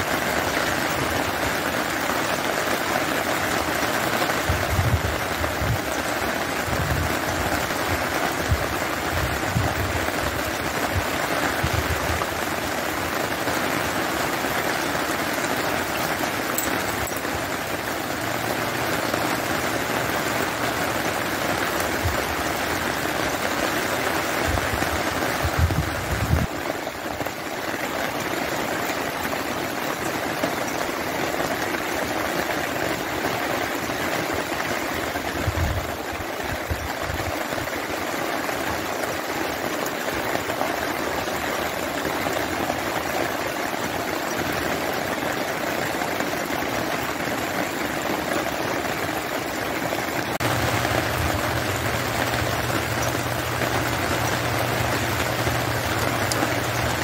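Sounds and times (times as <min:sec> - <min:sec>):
rain falling on wet ground: 0:00.0 - 0:57.0.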